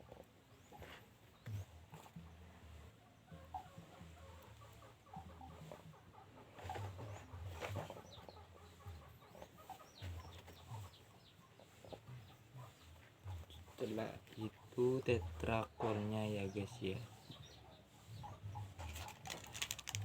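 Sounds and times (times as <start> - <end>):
chicken clucking: 0.0 - 20.0.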